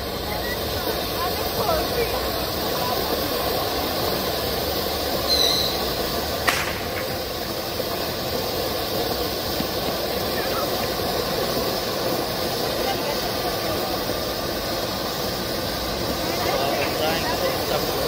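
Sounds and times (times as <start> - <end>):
firework crack: 0.0 - 18.0
firework fountain hissing: 0.0 - 18.0.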